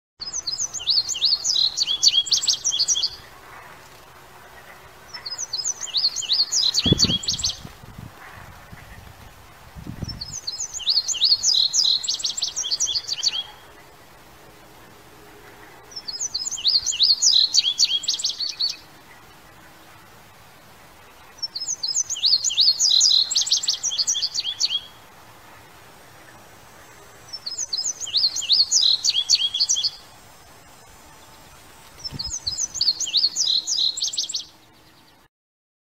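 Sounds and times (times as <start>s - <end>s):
bird singing: 0.2s - 7.7s, 10.0s - 35.3s.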